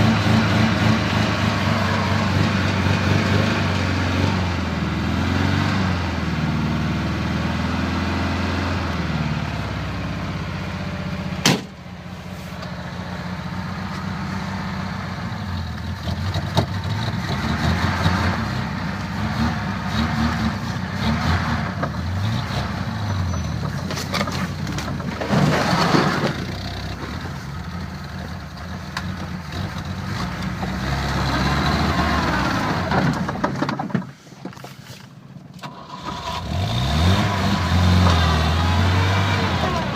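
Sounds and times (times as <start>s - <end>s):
vehicle engine running unevenly: 0.0s - 39.9s.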